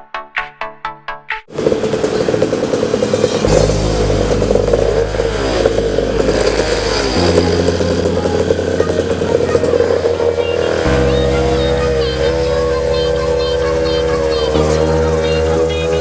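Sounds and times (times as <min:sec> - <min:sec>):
two-stroke scooter engine running: 0:01.5 - 0:16.0.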